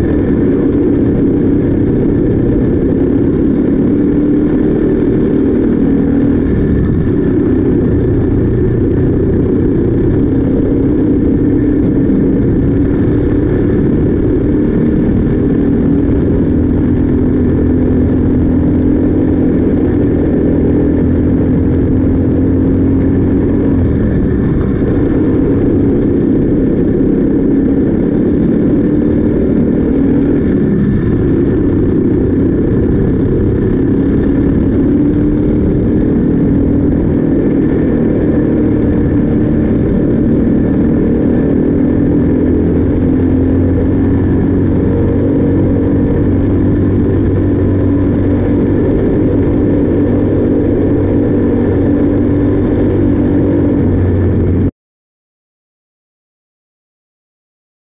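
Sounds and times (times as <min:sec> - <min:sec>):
kart engine running: 0:00.0 - 0:54.7.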